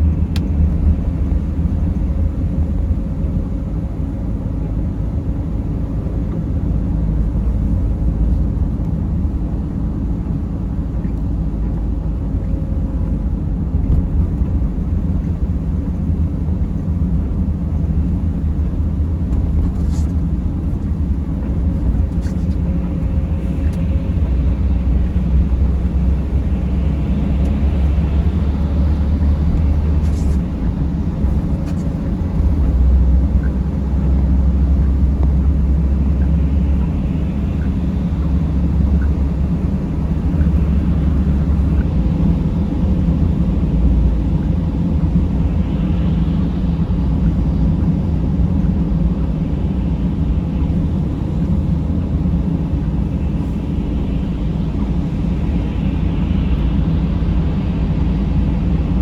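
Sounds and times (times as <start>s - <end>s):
van engine and road rumble: 0.0s - 59.0s.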